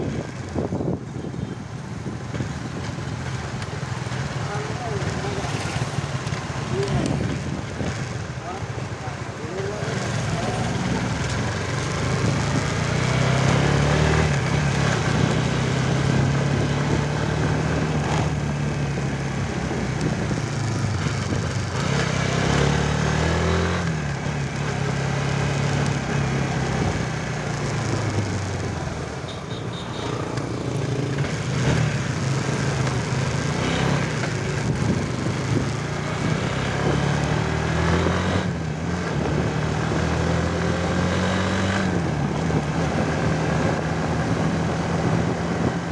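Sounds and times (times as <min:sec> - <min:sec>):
wind and road noise: 0:00.0 - 0:45.9
motorcycle engine revving: 0:03.1 - 0:45.9.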